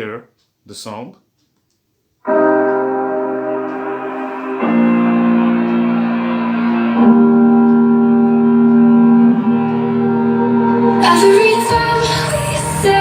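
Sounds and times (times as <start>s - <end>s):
pop song through speakers: 2.3s - 13.0s.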